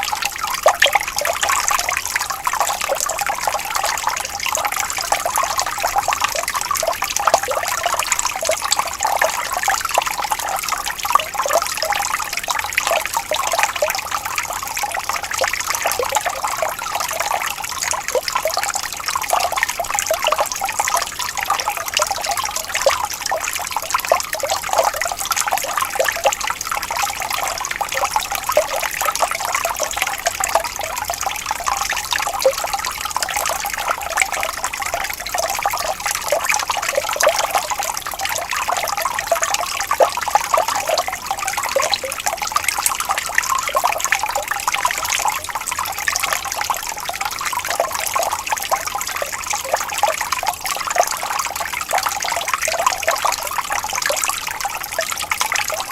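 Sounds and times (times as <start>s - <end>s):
stream water trickling over stones: 0.0s - 55.9s.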